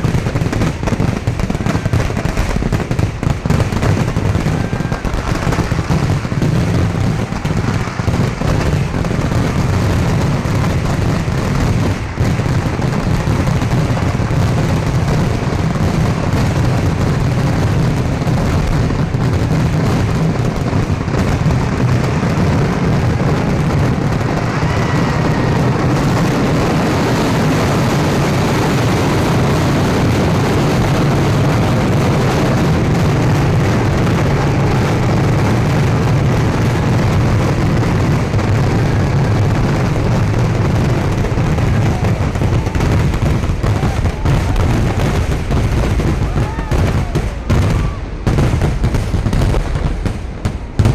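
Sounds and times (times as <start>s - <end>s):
fireworks exploding: 0.0s - 50.9s.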